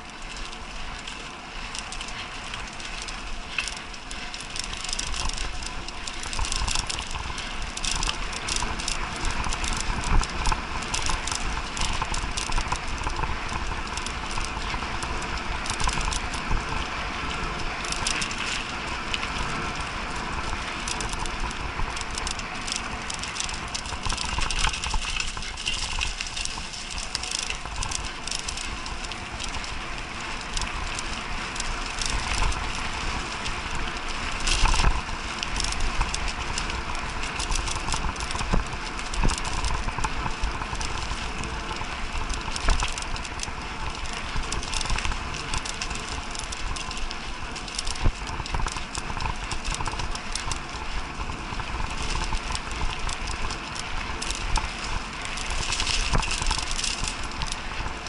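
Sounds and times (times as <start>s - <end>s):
bike rattling and clicking: 0.0s - 58.0s
bike tyres rumbling on dirt: 0.0s - 58.0s.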